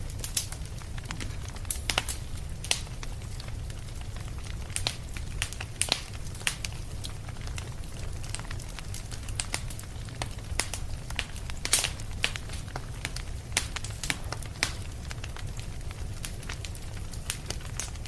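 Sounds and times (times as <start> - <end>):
fireplace fire crackling: 0.0 - 18.0.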